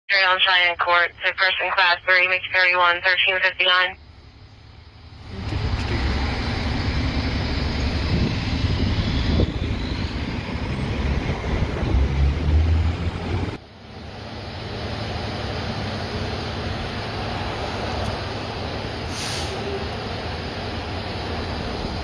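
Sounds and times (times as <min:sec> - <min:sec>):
street traffic rumble: 0:00.2 - 0:22.0.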